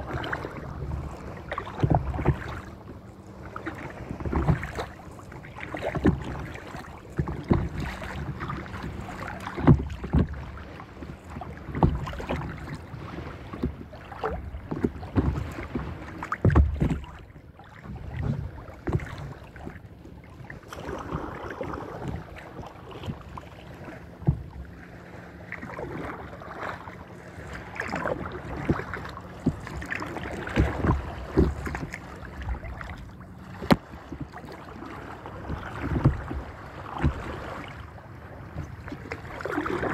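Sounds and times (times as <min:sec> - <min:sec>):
paddle strokes splashing: 0:00.0 - 0:39.9
water lapping against a hull: 0:00.0 - 0:39.9.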